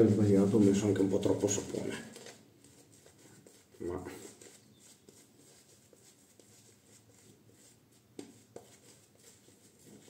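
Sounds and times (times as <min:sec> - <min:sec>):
shaving brush swishing lather: 0:00.0 - 0:10.0.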